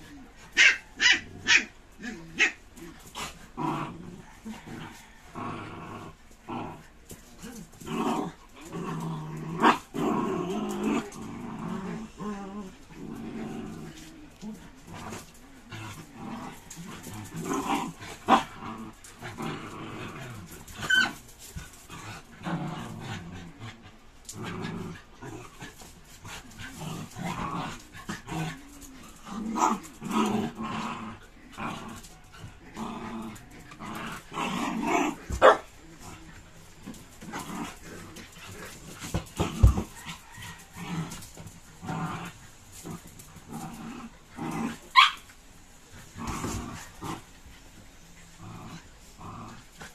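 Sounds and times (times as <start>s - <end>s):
dogs growling play-fighting: 0.0s - 49.9s.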